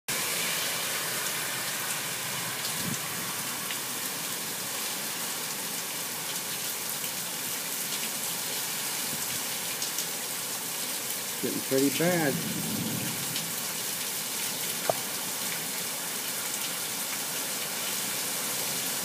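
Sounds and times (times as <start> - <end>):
heavy rain pattering: 0.1 - 19.0.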